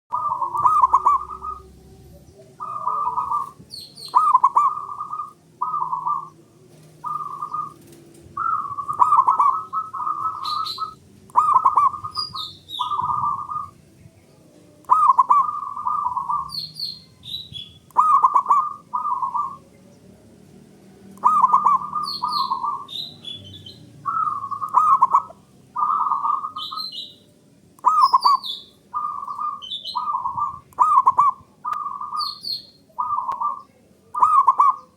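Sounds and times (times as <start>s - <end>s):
dove cooing song: 0.1s - 20.0s, 21.1s - 34.9s.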